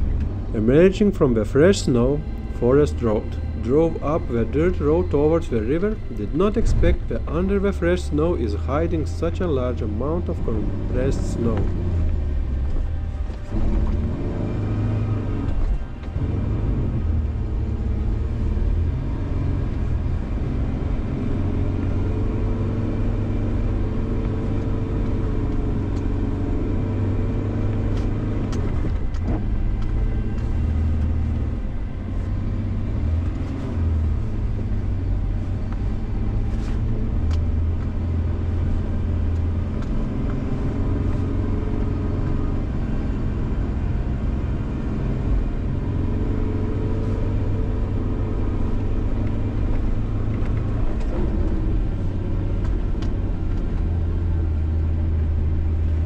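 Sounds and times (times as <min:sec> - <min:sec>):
truck engine revving under load: 0:00.0 - 0:56.0.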